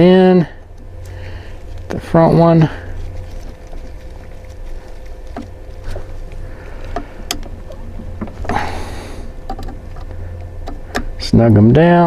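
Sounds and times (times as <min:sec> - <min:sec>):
handling rustle: 0:00.6 - 0:10.6.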